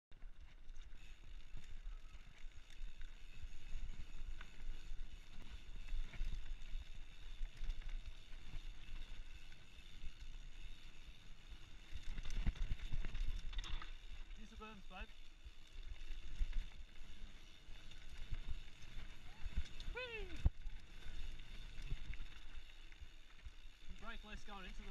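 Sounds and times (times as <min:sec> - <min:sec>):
bike rattling and knocking: 0:00.2 - 0:24.9
bike tyres rumbling on dirt: 0:00.2 - 0:24.9.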